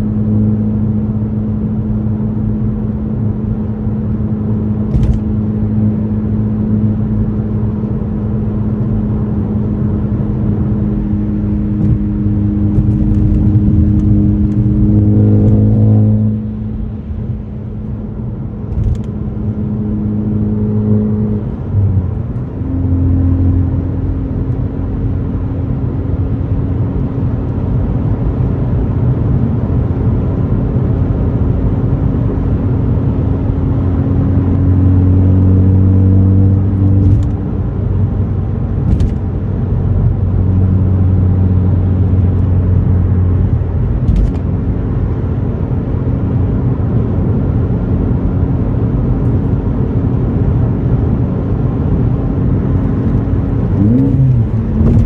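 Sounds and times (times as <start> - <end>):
car engine running at cruising revs: 0.0 - 55.0.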